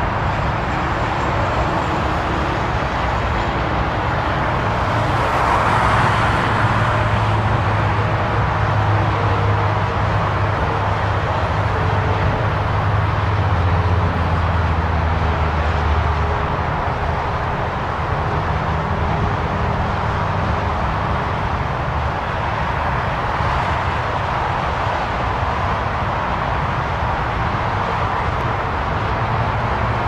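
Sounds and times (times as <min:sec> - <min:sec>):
jet engine roar on runway: 0:00.0 - 0:30.0.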